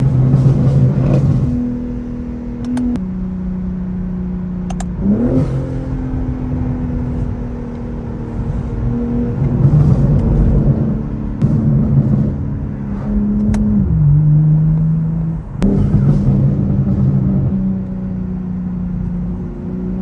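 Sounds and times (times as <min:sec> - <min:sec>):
exhaust pops: 0:00.0 - 0:03.0, 0:04.6 - 0:18.2
car exhaust note: 0:00.0 - 0:20.0.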